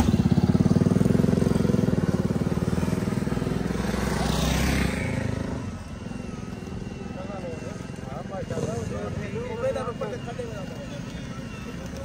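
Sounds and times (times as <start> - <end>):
motorcycle engine passing: 0.0 - 12.0.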